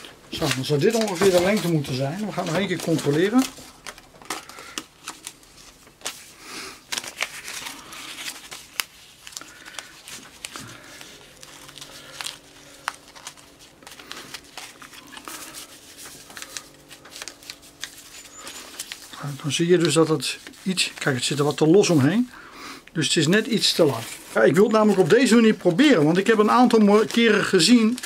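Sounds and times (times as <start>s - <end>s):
sandpaper rustling and crinkling: 0.3s - 3.6s, 5.0s - 22.3s, 23.2s - 28.0s.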